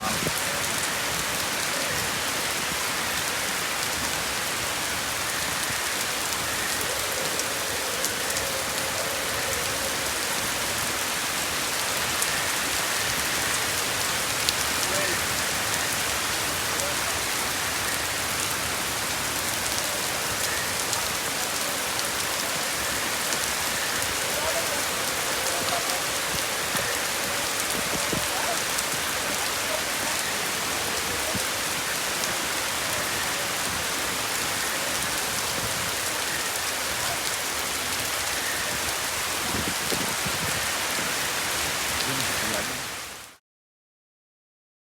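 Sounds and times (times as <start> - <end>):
rain pattering on surfaces: 0.0 - 43.4.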